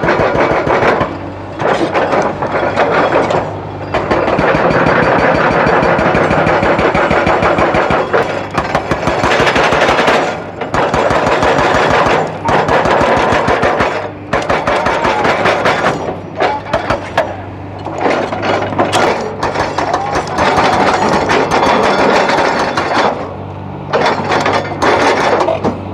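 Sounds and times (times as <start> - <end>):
diesel engine: 0.0 - 25.9
hydraulic breaker hammering rock: 0.0 - 25.9.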